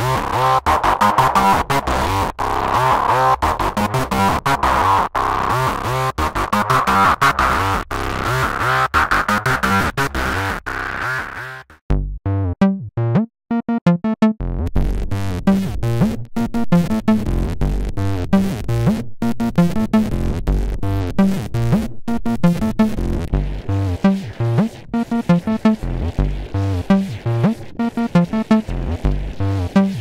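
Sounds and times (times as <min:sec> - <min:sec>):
distorted acid synth bassline: 0:00.0 - 0:30.0.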